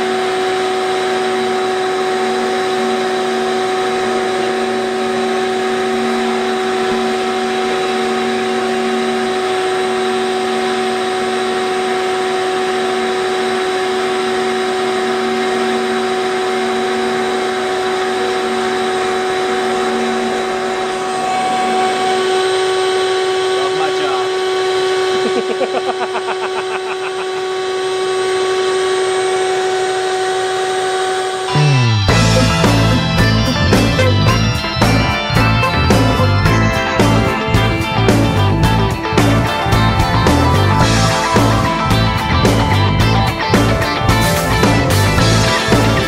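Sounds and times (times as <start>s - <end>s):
shop vacuum running: 0.0s - 46.0s.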